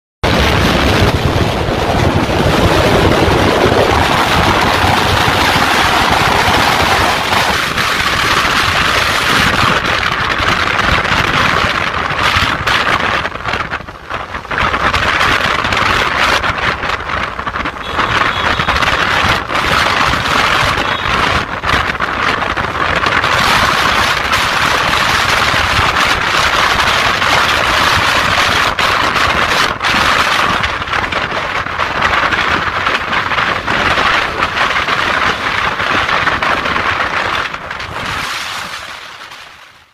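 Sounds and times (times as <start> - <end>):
traffic road and engine noise: 0.2 - 39.9
wind on microphone: 0.2 - 39.9.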